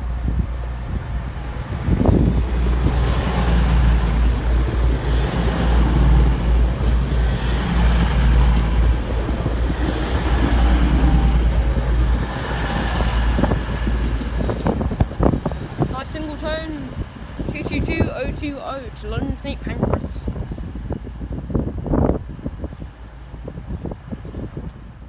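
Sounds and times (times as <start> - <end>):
train rumbling past: 0.0 - 25.0
wind buffeting microphone: 0.0 - 25.0.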